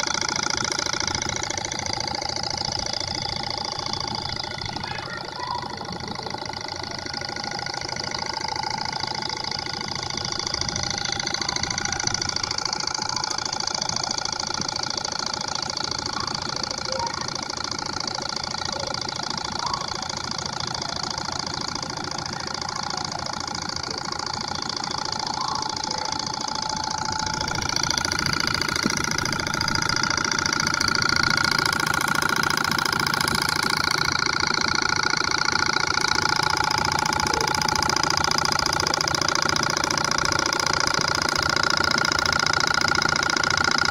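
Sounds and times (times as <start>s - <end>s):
small engine whirring and ticking: 0.0s - 43.9s.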